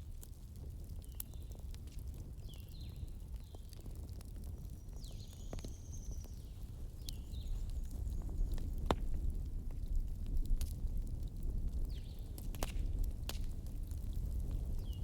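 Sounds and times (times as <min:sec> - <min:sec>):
fire low rumble: 0:00.0 - 0:15.0
fireplace fire crackling and popping: 0:00.0 - 0:15.0.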